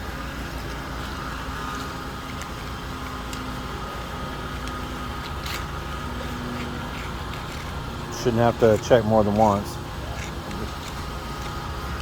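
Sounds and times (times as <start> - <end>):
saw engine running: 0.0 - 12.0.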